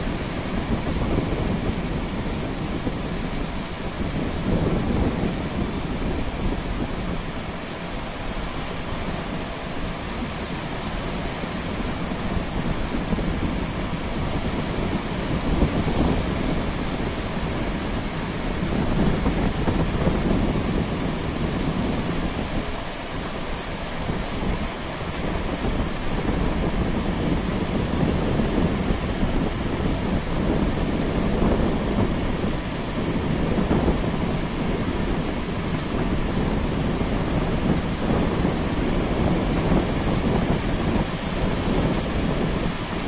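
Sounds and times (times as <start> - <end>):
surf breaking on shore: 0.0 - 43.0
wind buffeting microphone: 0.0 - 43.0.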